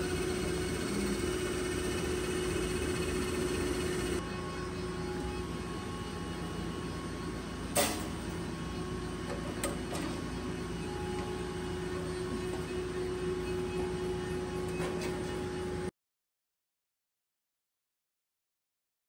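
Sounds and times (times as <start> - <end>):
machine hum: 0.0 - 15.9.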